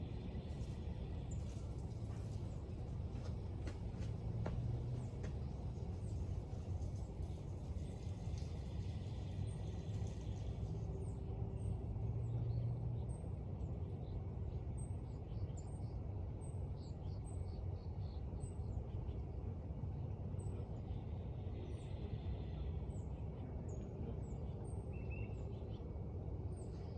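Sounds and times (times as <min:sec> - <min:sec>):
steady low rumble: 0:00.0 - 0:26.9.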